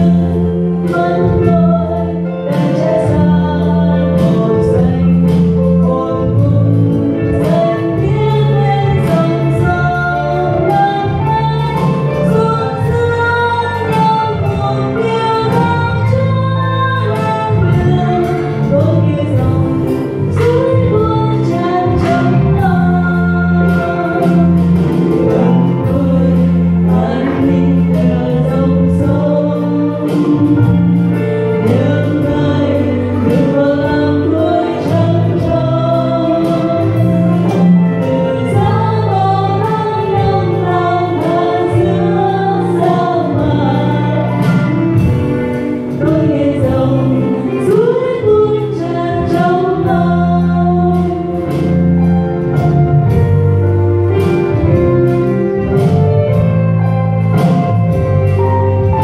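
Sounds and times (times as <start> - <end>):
women singing a hymn duet: 0.0 - 51.8
instrumental accompaniment: 0.0 - 59.0.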